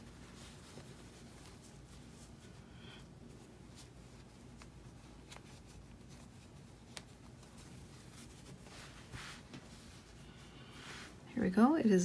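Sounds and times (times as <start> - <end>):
yarn rustling: 0.0 - 11.8.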